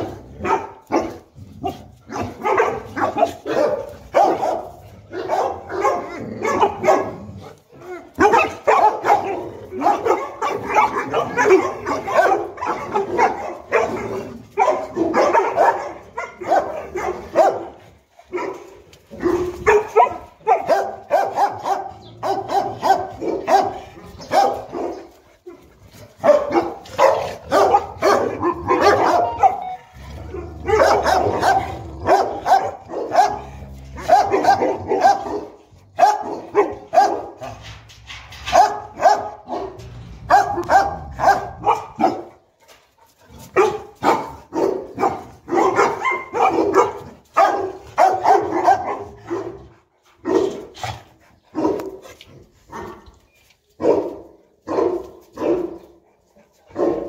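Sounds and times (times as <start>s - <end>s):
dogs barking: 0.0s - 42.5s, 43.4s - 53.0s, 53.8s - 57.0s.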